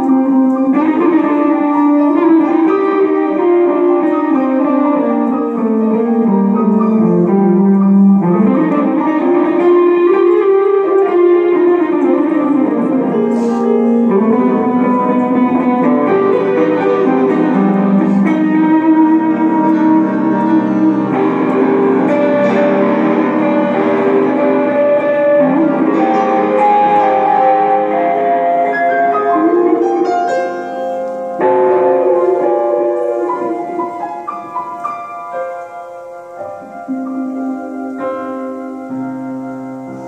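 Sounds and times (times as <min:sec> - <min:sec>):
electric guitar: 0:00.0 - 0:40.0
grand piano: 0:00.0 - 0:40.0
wooden wind instrument: 0:00.0 - 0:40.0.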